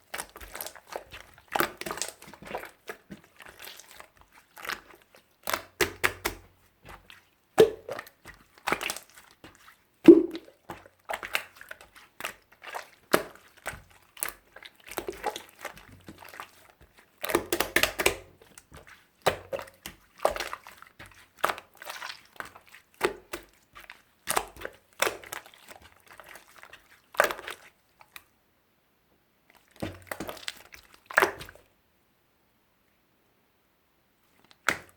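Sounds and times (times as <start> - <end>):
slime squelching and popping: 0.0 - 28.3, 29.5 - 31.6.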